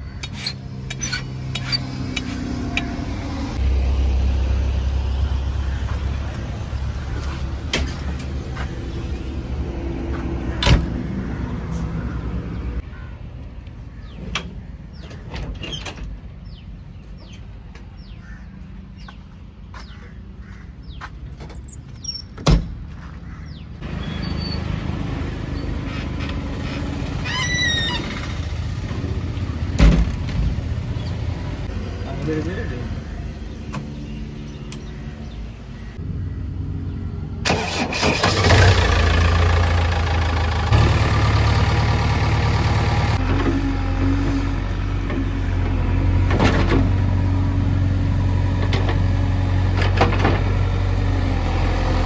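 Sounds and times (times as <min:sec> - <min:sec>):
diesel engine rumble: 0:00.0 - 0:52.0.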